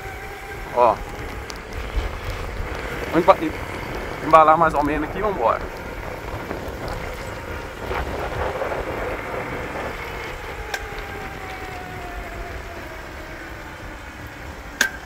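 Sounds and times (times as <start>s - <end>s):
electric motor whine: 0.0s - 14.8s
wind rumble on microphone: 0.0s - 15.0s.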